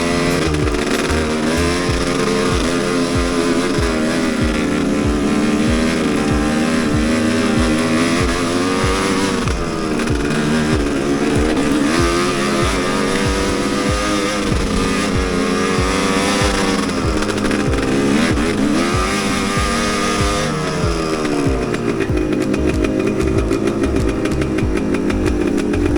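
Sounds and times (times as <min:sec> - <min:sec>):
background music with steady beat: 0:00.0 - 0:25.9
motorcycle engine revving: 0:00.0 - 0:25.9.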